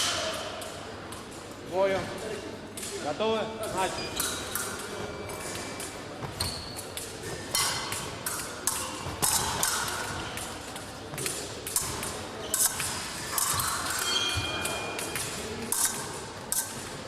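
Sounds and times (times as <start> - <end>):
fencing blades clashing: 0.0 - 17.0.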